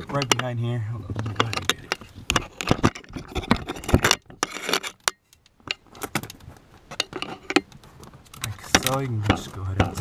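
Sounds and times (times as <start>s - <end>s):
wire and plastic trim handled: 1.1s - 10.0s.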